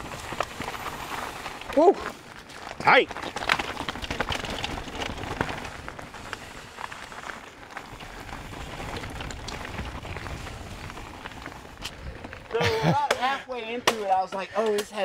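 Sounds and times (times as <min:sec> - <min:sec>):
bike clicking and rattling: 0:00.0 - 0:15.0
bike tyres crunching over dirt: 0:00.0 - 0:15.0.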